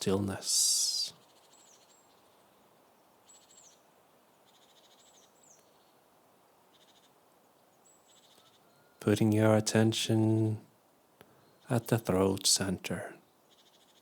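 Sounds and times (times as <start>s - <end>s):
faint birdsong: 0.0s - 14.0s
quiet background hiss: 0.0s - 14.0s.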